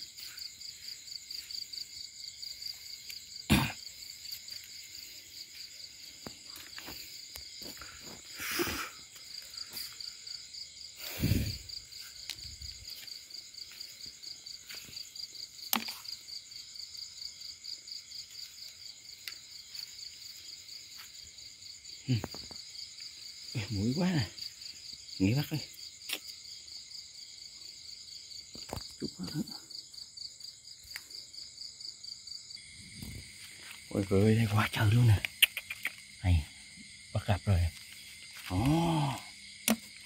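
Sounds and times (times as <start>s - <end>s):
night insects chirping: 0.0s - 40.0s.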